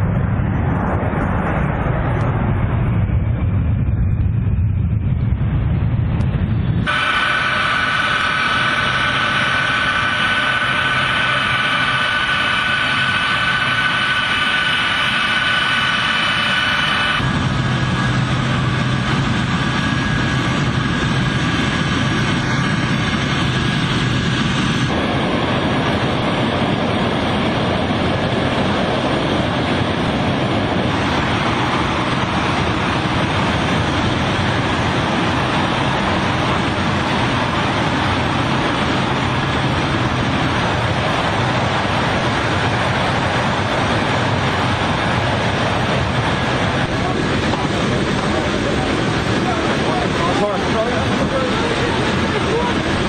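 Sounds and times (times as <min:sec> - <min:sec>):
aircraft engine whine: 0:00.0 - 0:53.0.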